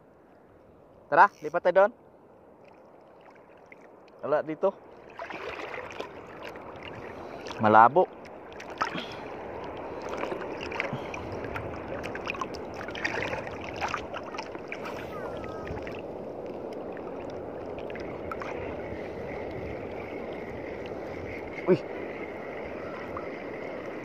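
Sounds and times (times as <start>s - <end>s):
sea water lapping and sloshing: 0.0s - 24.0s.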